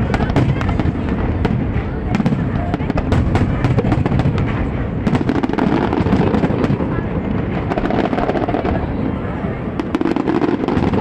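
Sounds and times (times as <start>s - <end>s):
rumble of firework booms: 0.0s - 11.0s.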